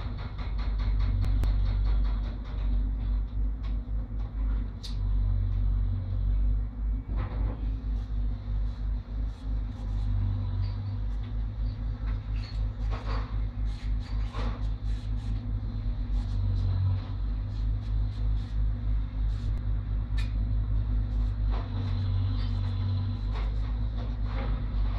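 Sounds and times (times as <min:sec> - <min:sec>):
diesel engines rumbling: 0:02.7 - 0:24.9.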